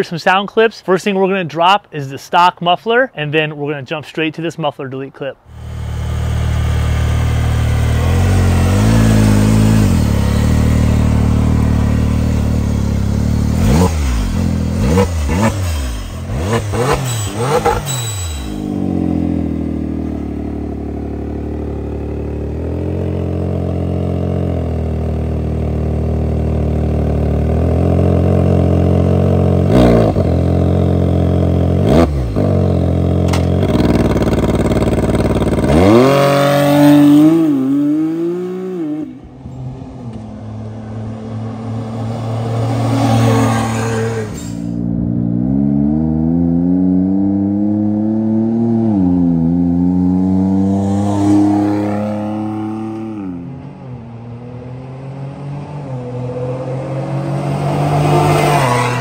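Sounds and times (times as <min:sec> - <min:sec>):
engine idling and revving: 0:05.5 - 0:59.0
vehicle accelerating away: 0:05.5 - 0:59.0.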